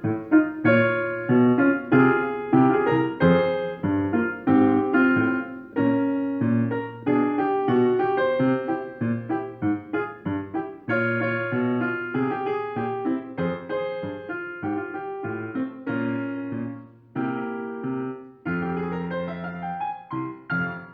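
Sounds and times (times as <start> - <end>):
piano chords: 0.0 - 20.9.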